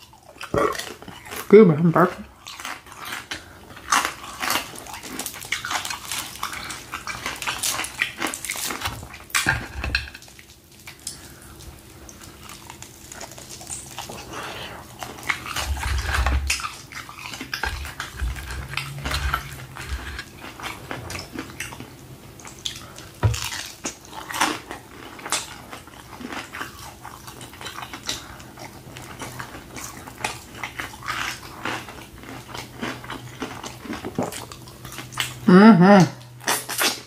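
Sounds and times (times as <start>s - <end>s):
person chewing: 0.0s - 37.0s.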